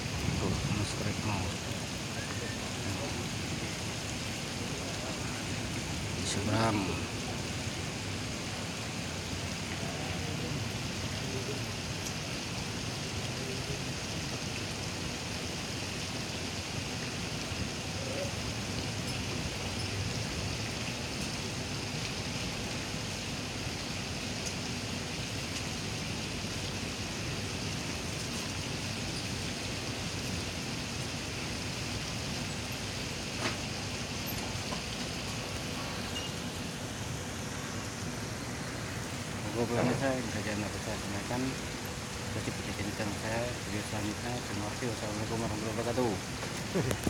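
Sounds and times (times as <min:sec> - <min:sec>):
water rushing and splashing: 0:00.0 - 0:47.0.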